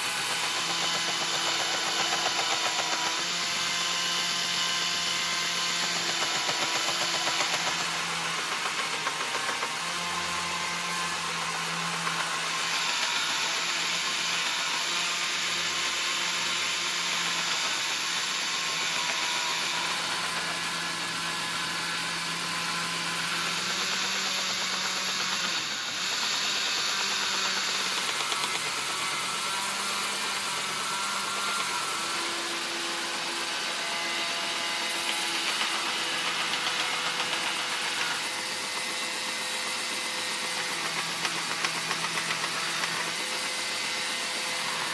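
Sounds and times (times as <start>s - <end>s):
power tool motor humming: 0.0s - 44.9s.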